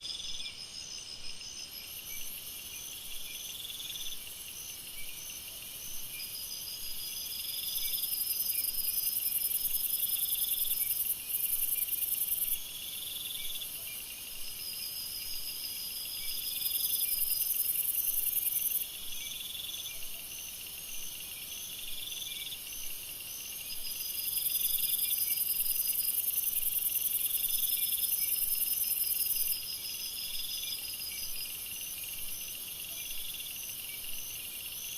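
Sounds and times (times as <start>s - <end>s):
crickets and insects chirping: 0.0s - 34.9s.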